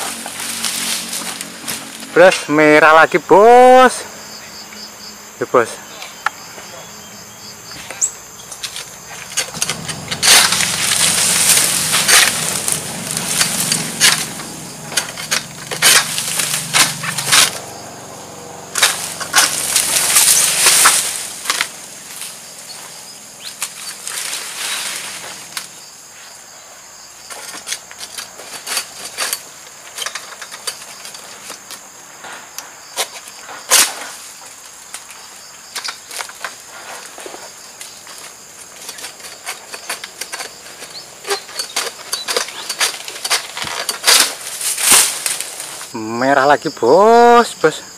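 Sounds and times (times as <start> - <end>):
palm fronds rustling and crackling: 0.0 - 4.8, 5.4 - 47.8
high insect drone: 0.0 - 47.9.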